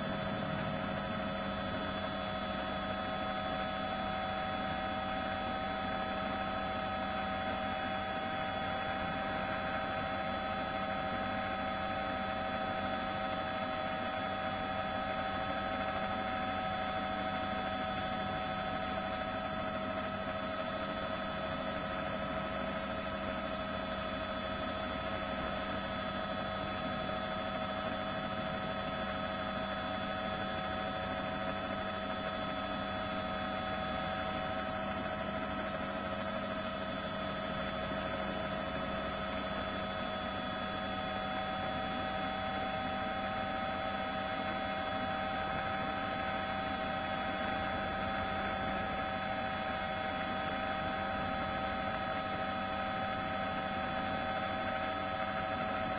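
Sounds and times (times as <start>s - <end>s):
helicopter turbine engine: 0.0s - 55.9s.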